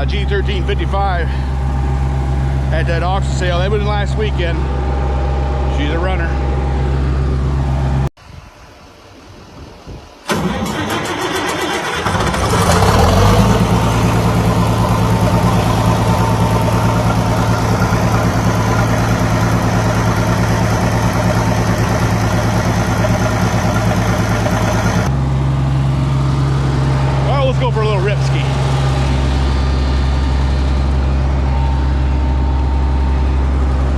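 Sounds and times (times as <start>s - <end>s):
tractor engine starting and running: 0.0s - 8.1s, 10.0s - 33.9s.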